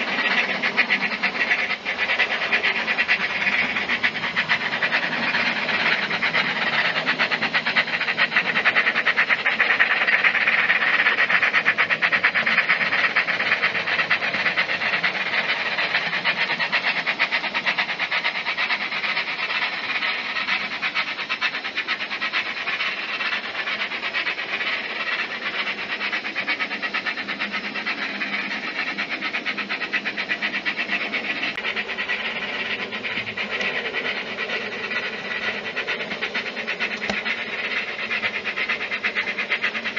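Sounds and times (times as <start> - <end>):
model locomotive steam chuffs: 0.0 - 39.9.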